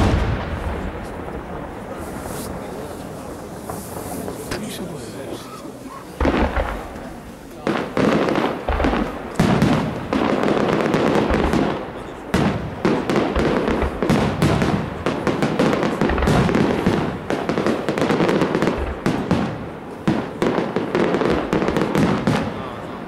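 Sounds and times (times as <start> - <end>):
firework shells booming and crackling: 0.0 - 23.0.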